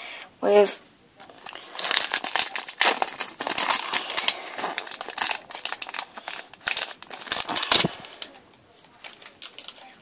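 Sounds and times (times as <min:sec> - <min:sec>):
foil wrapper crinkling: 0:01.2 - 0:10.0.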